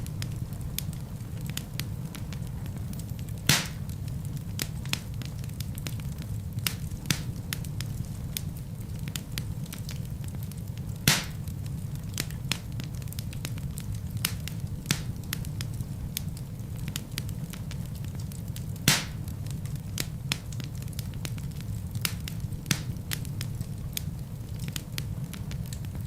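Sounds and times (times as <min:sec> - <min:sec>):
burning log popping: 0:00.0 - 0:26.0
wood fire crackling: 0:00.0 - 0:26.0.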